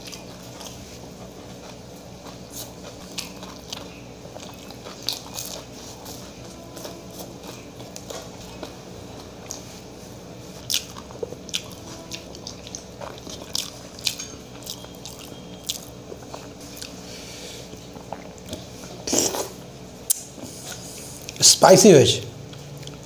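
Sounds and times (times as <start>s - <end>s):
person chewing with mouth open: 0.0s - 21.4s, 22.4s - 23.0s.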